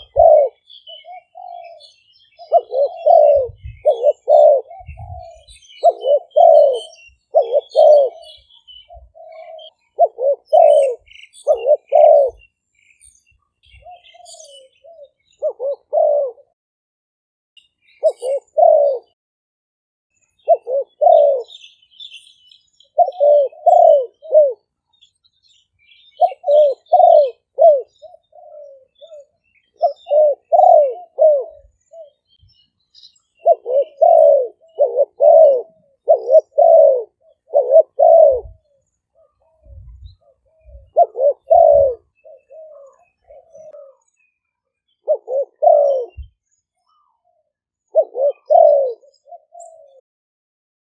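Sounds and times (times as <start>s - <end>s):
dove cooing: 0.0s - 12.5s, 13.6s - 16.6s, 17.9s - 19.2s, 20.4s - 21.7s, 22.8s - 24.8s, 26.0s - 50.0s.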